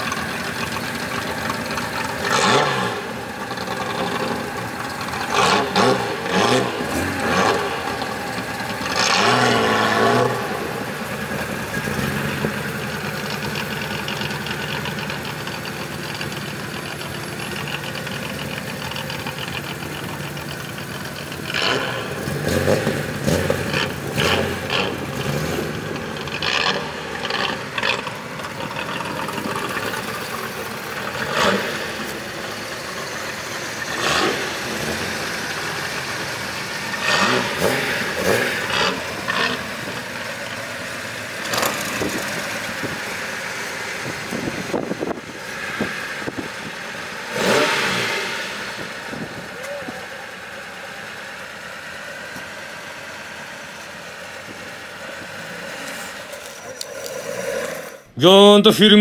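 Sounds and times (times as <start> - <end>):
car engines revving: 0.0 - 58.2.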